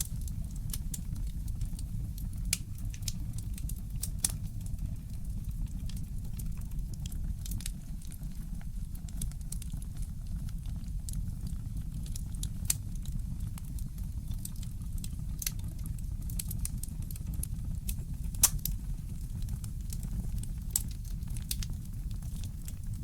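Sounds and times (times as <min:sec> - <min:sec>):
fireplace crackling: 0:00.0 - 0:23.0.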